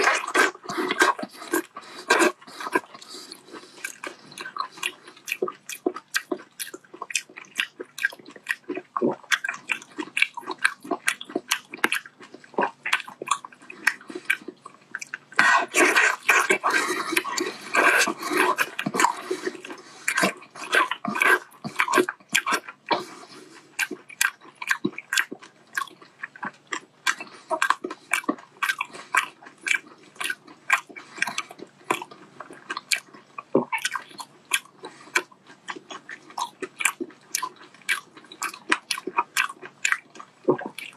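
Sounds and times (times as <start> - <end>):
wet chewing mouth smacks: 0.0 - 40.9.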